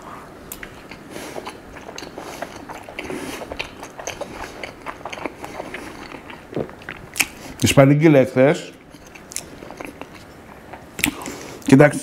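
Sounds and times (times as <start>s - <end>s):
person chewing food: 0.0s - 7.8s, 8.7s - 11.7s.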